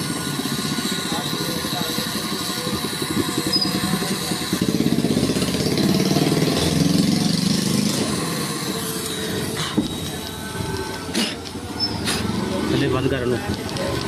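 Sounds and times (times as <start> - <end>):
motor running with pulsing beat: 0.0 - 14.0.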